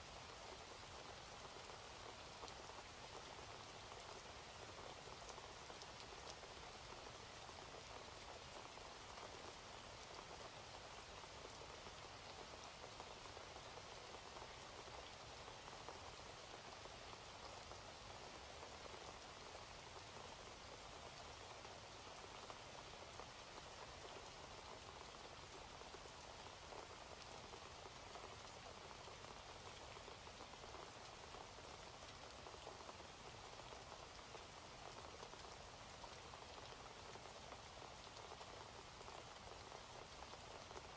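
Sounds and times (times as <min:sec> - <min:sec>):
faint steady rain: 0:00.0 - 0:40.9.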